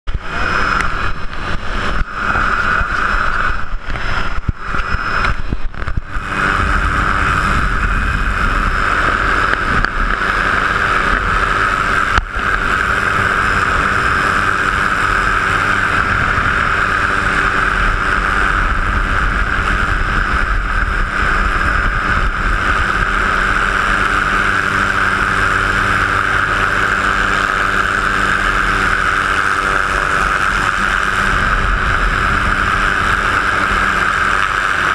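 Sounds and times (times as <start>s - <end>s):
helicopter engine and rotors: 0.1s - 34.9s.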